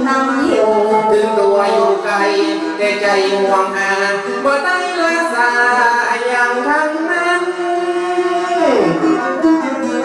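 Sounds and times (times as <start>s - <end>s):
folk band with bowed fiddle: 0.0s - 10.0s
folk singing: 0.0s - 10.0s.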